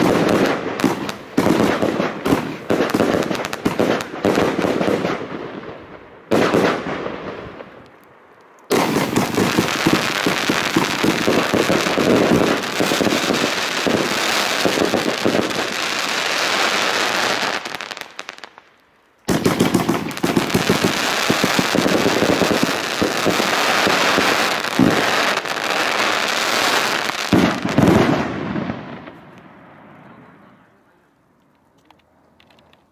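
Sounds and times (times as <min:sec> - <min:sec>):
fireworks shots and bursts: 0:00.0 - 0:07.8, 0:08.7 - 0:18.7, 0:19.3 - 0:30.3
loud fireworks bangs: 0:00.0 - 0:07.8, 0:08.7 - 0:18.6, 0:19.3 - 0:30.6.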